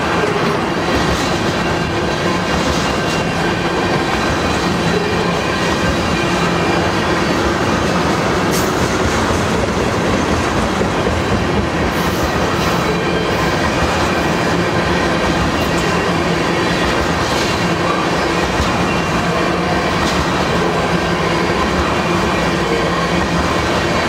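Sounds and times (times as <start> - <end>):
freight train wheels clattering on rails: 0.0 - 24.0.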